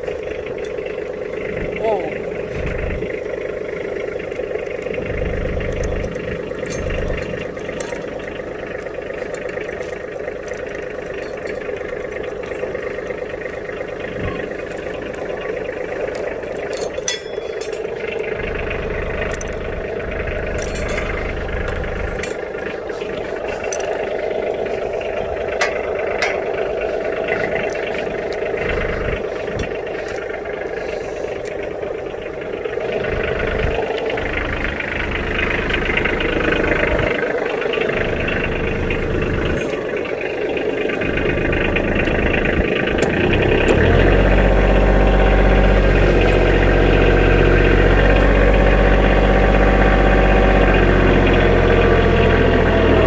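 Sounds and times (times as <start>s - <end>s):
metallic clinks and rattles: 0.0s - 52.8s
tractor engine running: 0.0s - 53.0s.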